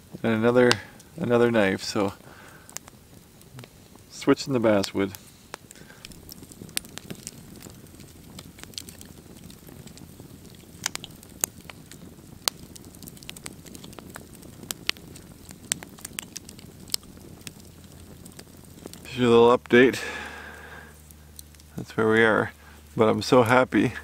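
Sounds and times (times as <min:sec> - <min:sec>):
campfire crackling and popping: 0:00.0 - 0:24.0
low rush of burning: 0:00.0 - 0:24.0.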